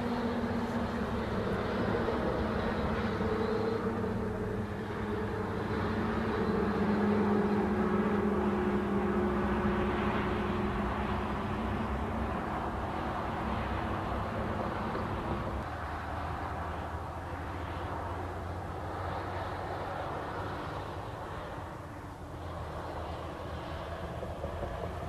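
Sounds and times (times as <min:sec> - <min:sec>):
vehicle engine hum: 0:00.0 - 0:25.0.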